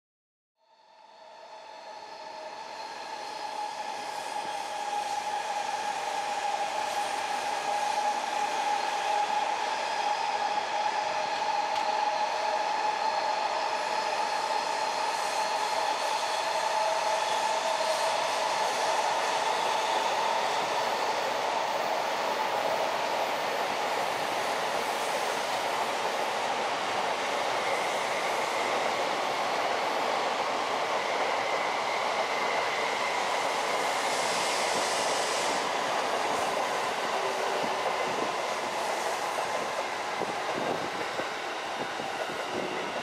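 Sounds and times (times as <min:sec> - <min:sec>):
trains rushing past: 0:00.9 - 0:43.0.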